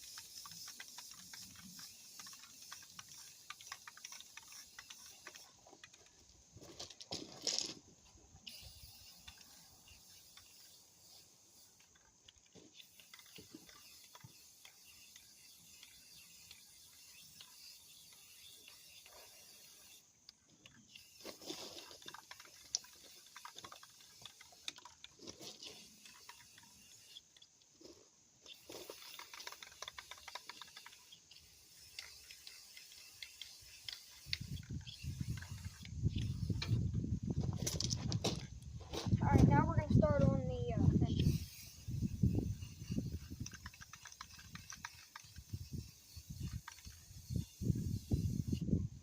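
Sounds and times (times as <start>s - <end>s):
spray can clicking and rattling: 0.0s - 49.0s.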